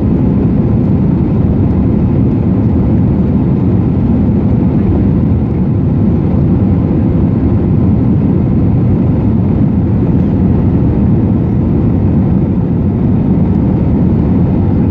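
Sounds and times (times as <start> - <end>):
airplane cabin engine drone: 0.0 - 14.9.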